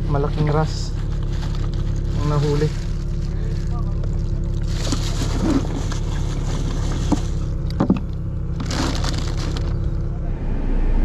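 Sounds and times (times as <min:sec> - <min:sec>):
steady low rumble: 0:00.0 - 0:11.0
plastic rustling: 0:00.4 - 0:09.8.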